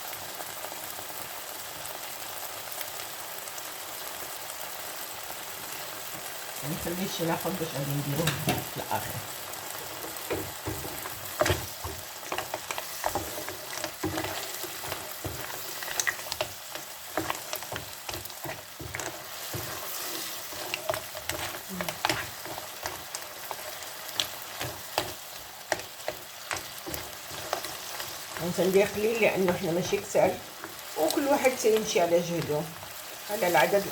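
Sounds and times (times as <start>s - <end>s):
food sizzling in oil: 0.0s - 33.9s.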